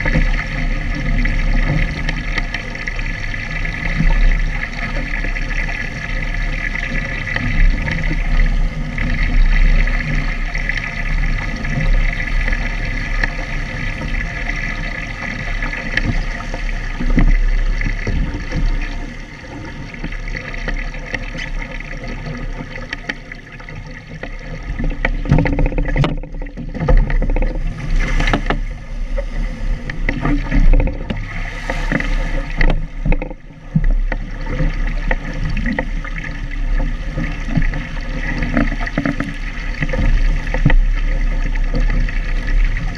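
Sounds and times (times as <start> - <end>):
water rushing along a hull: 0.0 - 42.9
wind rumbling on microphone: 0.0 - 42.9.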